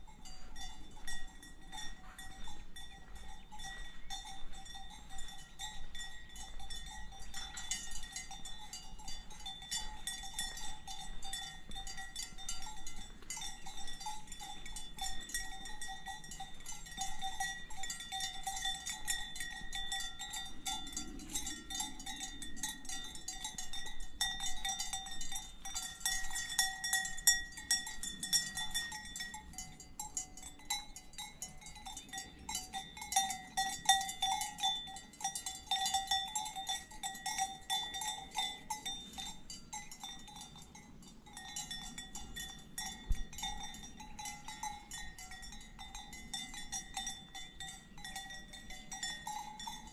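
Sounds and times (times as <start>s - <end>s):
cowbells clanking: 0.0s - 49.9s.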